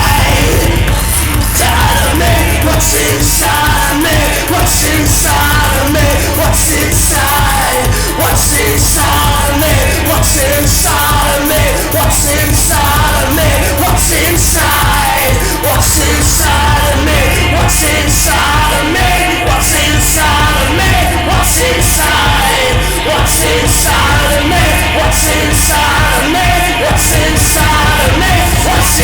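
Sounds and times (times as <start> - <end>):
driving drum beat: 0.0 - 29.0
loud rock music: 0.0 - 29.0
shouted vocals: 0.0 - 29.0.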